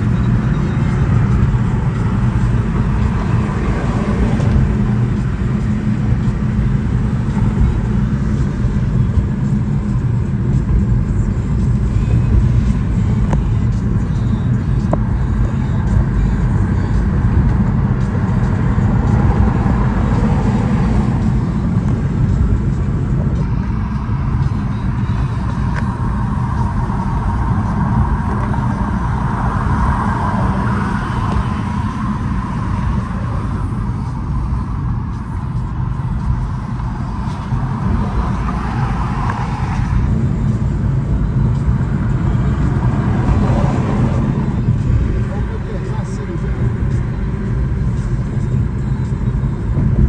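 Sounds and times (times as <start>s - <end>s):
car cabin road rumble: 0.0s - 50.0s.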